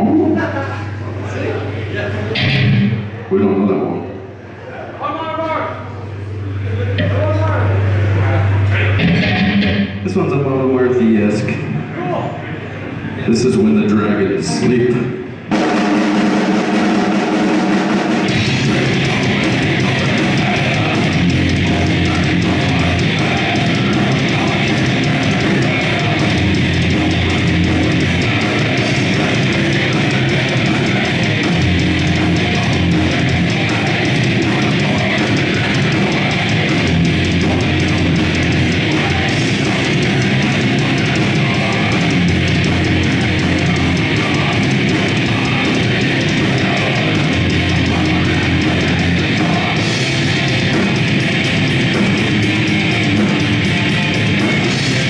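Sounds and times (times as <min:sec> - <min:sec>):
heavy metal band playing: 0:02.3 - 0:04.1, 0:06.9 - 0:11.9, 0:13.3 - 0:55.0.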